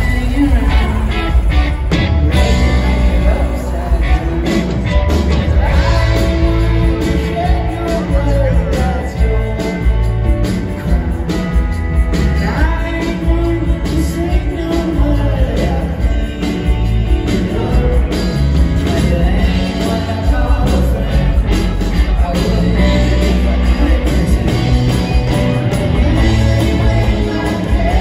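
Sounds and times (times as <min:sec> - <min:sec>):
bass guitar: 0:00.0 - 0:28.0
drums: 0:00.0 - 0:28.0
electric guitars: 0:00.0 - 0:28.0
keyboards: 0:00.0 - 0:28.0
lead and backing vocals singing: 0:02.2 - 0:11.4, 0:12.4 - 0:28.0.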